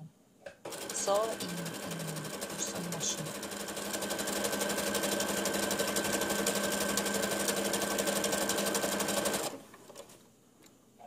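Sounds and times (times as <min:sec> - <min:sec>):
electric sewing machine stitching: 0:00.7 - 0:10.1.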